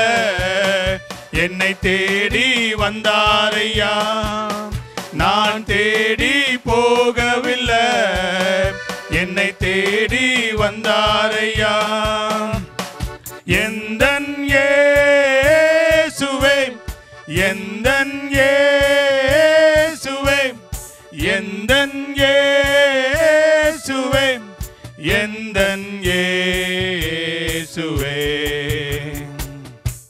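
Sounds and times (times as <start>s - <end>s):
two men singing into microphones: 0.0s - 30.0s.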